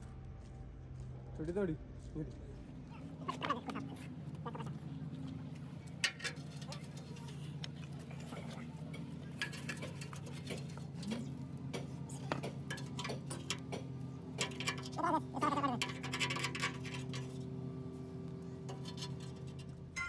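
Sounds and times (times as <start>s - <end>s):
steady background hum: 0.0s - 20.0s
brush scraping rusty steel: 3.2s - 20.0s.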